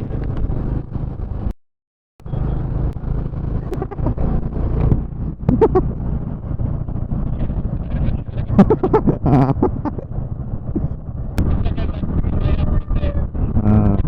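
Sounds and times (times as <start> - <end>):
motorcycle engine running: 0.0 - 1.5, 2.2 - 14.0
road and wind rumble: 0.0 - 1.6, 2.2 - 14.0.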